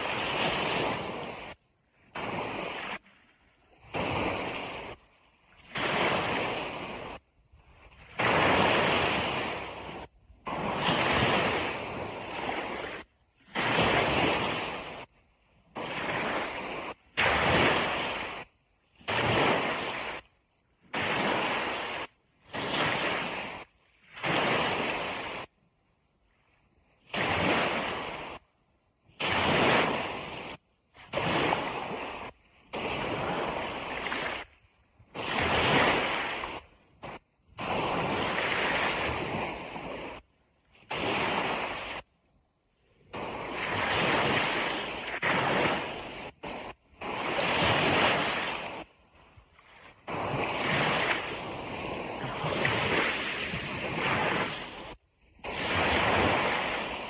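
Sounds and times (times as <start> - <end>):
ocean surf washing on beach: 0.0 - 57.0.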